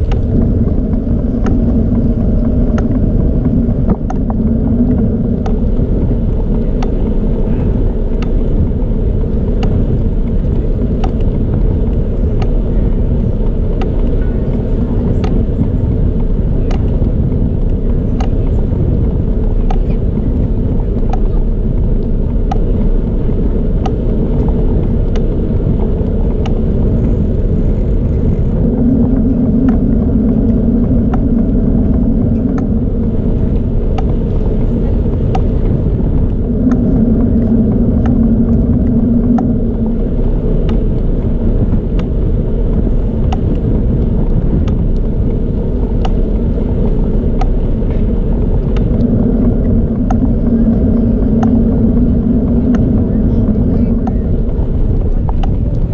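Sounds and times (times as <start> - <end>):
bicycle tyre and wind rumble: 0.0 - 55.9
light ticking: 0.0 - 55.9
low hum: 0.0 - 55.9.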